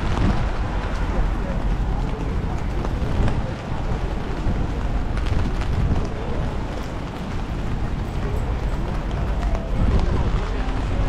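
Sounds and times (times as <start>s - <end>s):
rain rumbling: 0.0s - 11.0s
raindrops ticking: 0.0s - 11.0s
traffic: 0.0s - 11.0s
wind on microphone: 0.0s - 11.0s.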